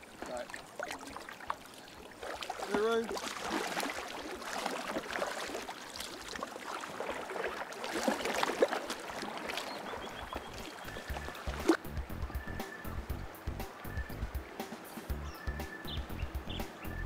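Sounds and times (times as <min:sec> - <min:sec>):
paddle splashing in water: 0:00.0 - 0:15.1.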